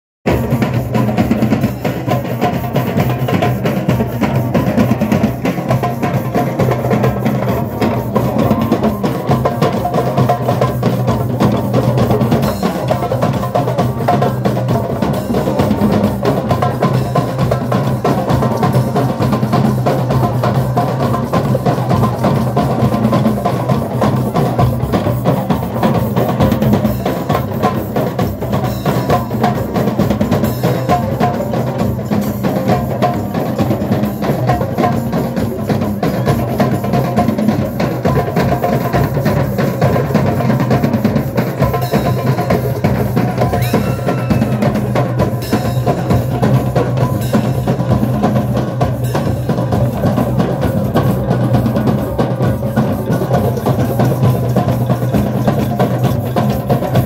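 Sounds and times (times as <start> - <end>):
drum kit: 0.3 - 57.0
hand drums playing: 0.3 - 57.0.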